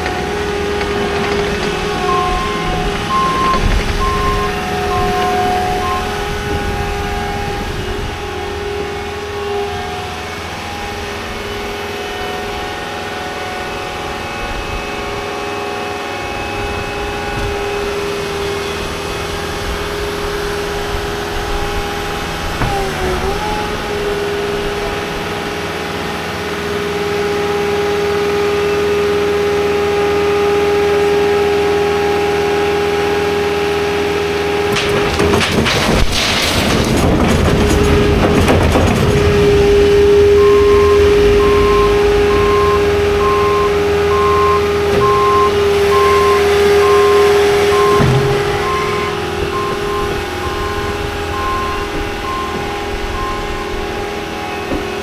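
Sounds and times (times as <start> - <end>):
engine droning whine: 0.0 - 55.0.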